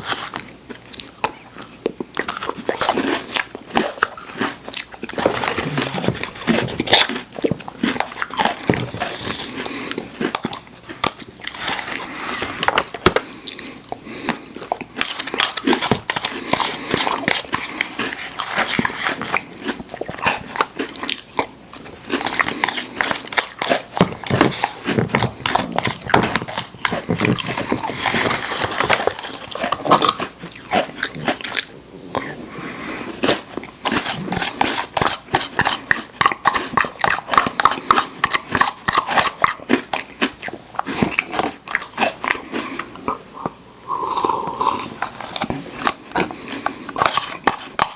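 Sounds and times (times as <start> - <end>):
cookies crunching while chewed: 0.0 - 47.9.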